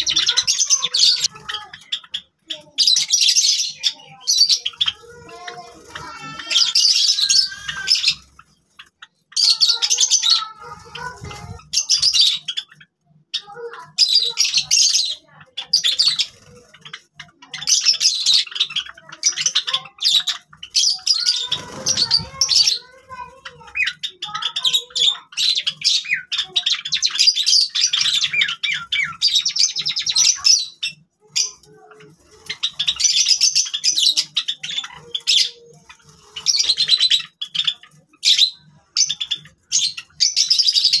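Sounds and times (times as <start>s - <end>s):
sparrows twittering: 0.0s - 41.0s.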